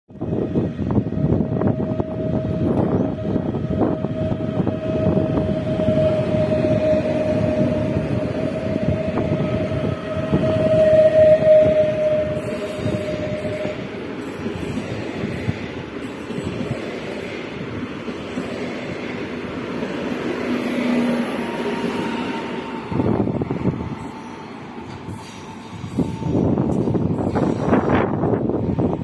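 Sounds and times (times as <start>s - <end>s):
electric train whine: 0.1s - 29.0s.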